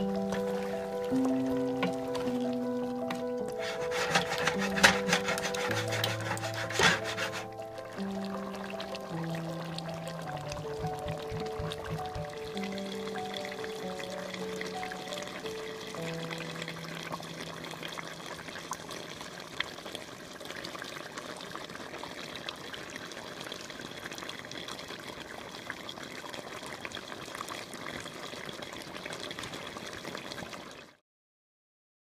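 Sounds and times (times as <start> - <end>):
sauce bubbling in a pot: 0.0 - 31.0.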